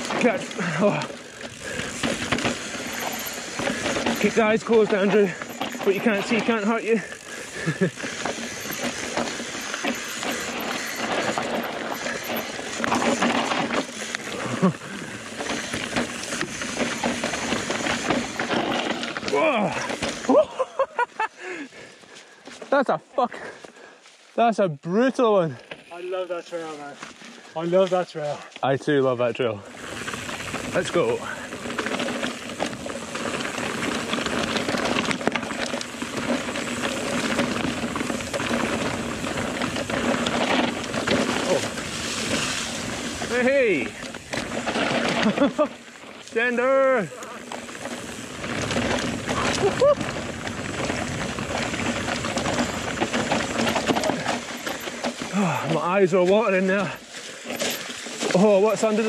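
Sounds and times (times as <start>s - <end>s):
bike rattling over rocks: 0.0s - 23.7s, 24.9s - 59.0s.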